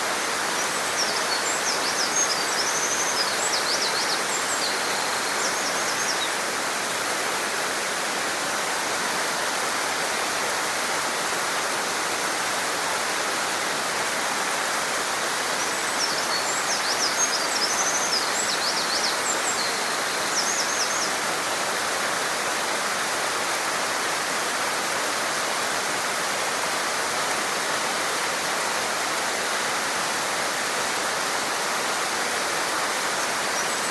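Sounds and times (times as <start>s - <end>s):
stream rushing: 0.0s - 33.9s.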